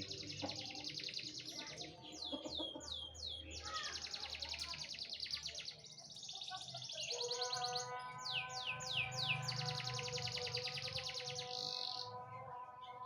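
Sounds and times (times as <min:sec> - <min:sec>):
canary singing trills: 0:00.0 - 0:12.3.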